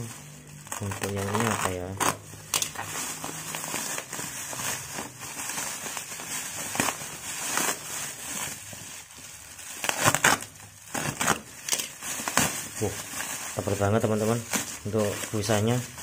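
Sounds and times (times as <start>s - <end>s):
plastic packing crinkling: 0.0s - 16.0s.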